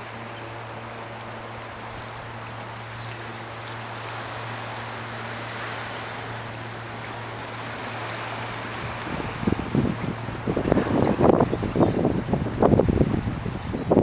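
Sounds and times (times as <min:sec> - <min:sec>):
low machine hum: 0:00.0 - 0:14.0
water rushing along rocky shore: 0:00.0 - 0:14.0.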